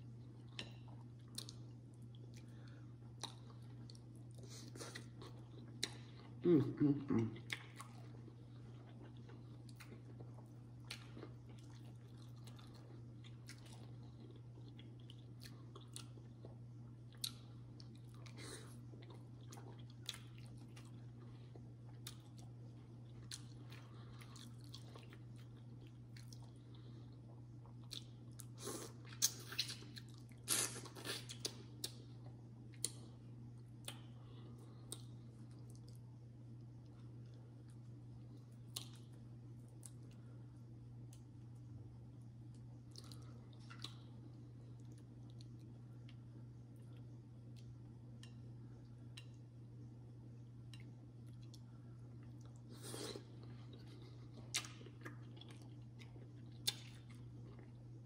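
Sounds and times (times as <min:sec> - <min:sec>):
person chewing: 0:00.3 - 0:06.4, 0:07.2 - 0:36.0, 0:36.8 - 0:40.2, 0:42.4 - 0:49.4, 0:50.6 - 0:57.9.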